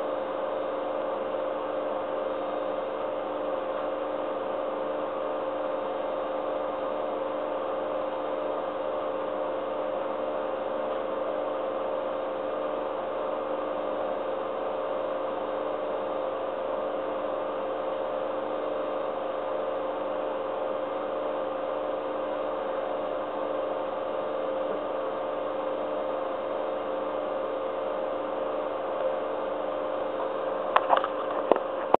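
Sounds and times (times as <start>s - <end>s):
steady hum with hiss: 0.0s - 32.0s.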